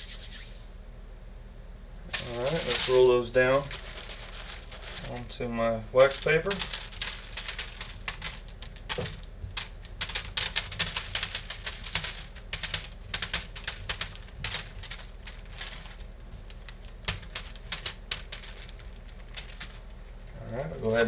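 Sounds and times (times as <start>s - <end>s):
small balls clicking and tapping: 2.1s - 5.4s, 6.0s - 20.9s
hand brushing across ridges: 2.1s - 19.9s.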